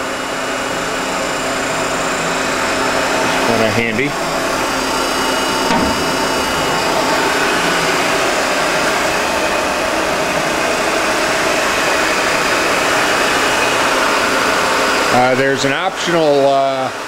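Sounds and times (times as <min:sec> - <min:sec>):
faint machine whine: 0:00.0 - 0:17.0
grinder machine humming: 0:00.0 - 0:17.0.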